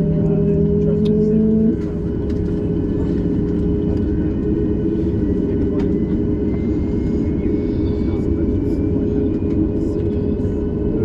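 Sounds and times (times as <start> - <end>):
aircraft cabin rushing hum: 0.0 - 11.0.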